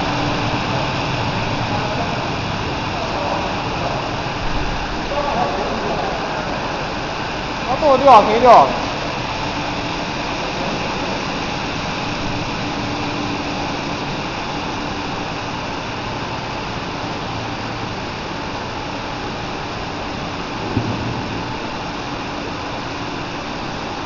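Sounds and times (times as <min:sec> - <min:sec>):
faint machine hum: 0:00.0 - 0:24.0.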